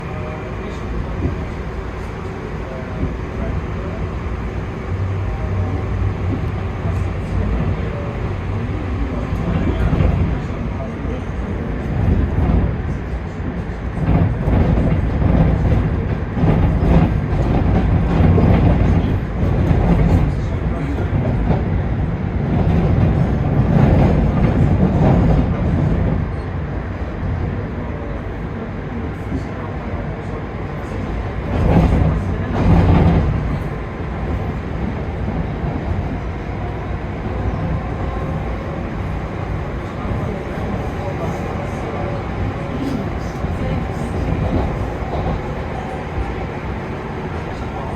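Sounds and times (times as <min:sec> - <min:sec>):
train rumbling along track: 0:00.0 - 0:47.9.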